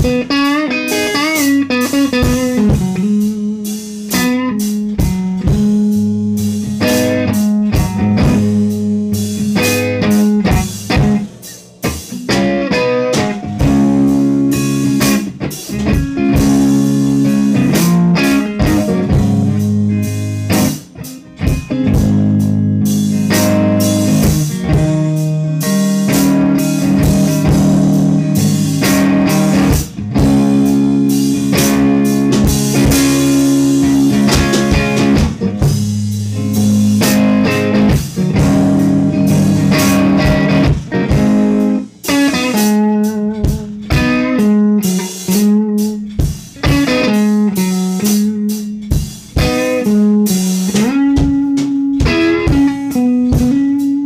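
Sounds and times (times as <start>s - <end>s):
blues band backing track: 0.0s - 54.0s.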